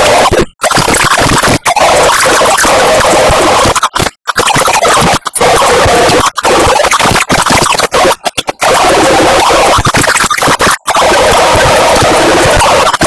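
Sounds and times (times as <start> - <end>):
harsh distorted noise: 0.0 - 13.0.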